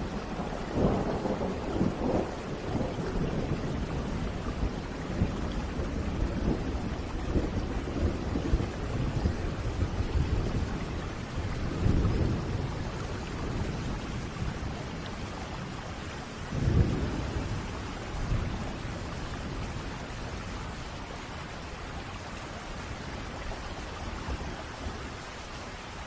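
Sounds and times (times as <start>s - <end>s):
rolling thunder: 0.0s - 21.6s
steady rain: 0.0s - 26.0s.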